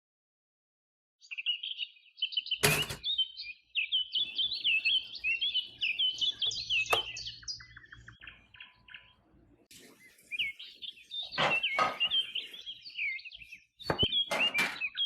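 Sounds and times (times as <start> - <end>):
birds chirping and twittering: 1.2 - 15.0.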